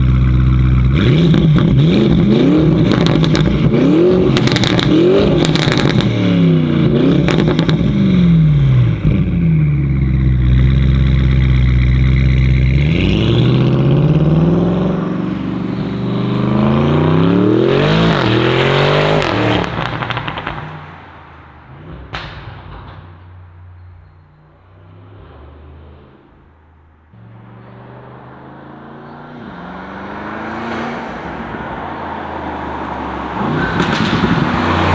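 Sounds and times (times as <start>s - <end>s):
car engine revving hard: 0.0s - 23.0s, 24.2s - 34.9s
exhaust cracks: 0.0s - 34.9s.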